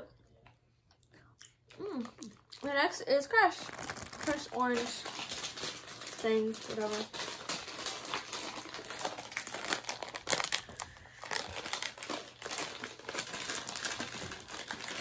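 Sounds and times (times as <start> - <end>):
plastic candy bag crinkling: 1.9 - 15.0.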